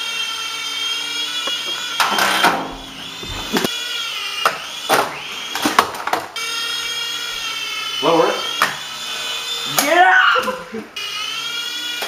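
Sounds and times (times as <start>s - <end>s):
toy helicopter motors whining: 0.0s - 12.0s.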